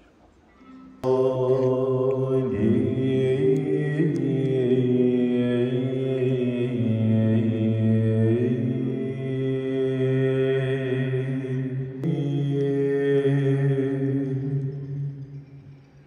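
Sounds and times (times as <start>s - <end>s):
men chanting slowly: 1.0s - 15.4s
low drone: 1.0s - 16.0s.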